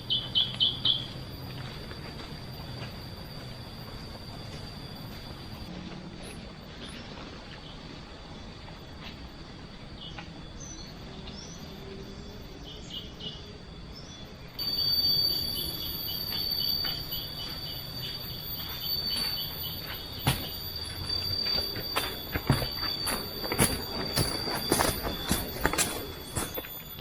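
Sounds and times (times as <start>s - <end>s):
faint bird chirps: 0.0s - 27.0s
insects droning: 0.0s - 27.0s
rhythmic pulsing insect call: 0.0s - 27.0s.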